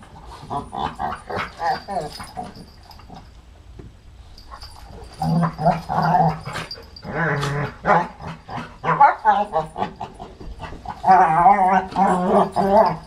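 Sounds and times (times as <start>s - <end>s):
dogs growling and whining: 0.0s - 3.4s, 4.4s - 13.0s.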